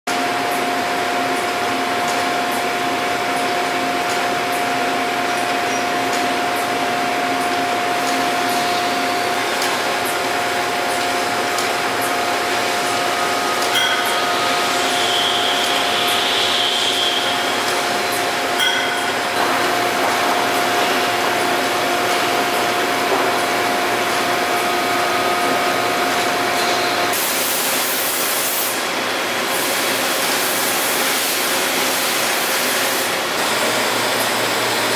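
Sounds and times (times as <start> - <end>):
constant machine whine: 0.1 - 34.9
machine mechanical hum: 0.1 - 34.9.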